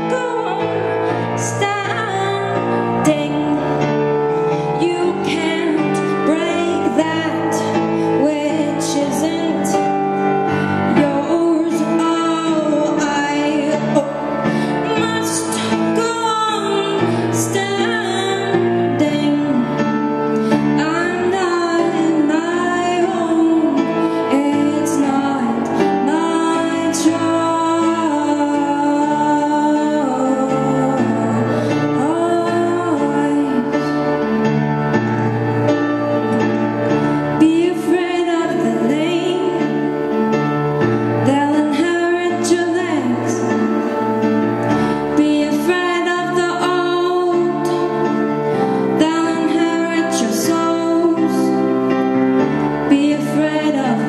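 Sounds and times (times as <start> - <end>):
woman singing ballad: 0.0 - 35.0, 35.7 - 54.0
sustained keyboard chords: 0.0 - 54.0.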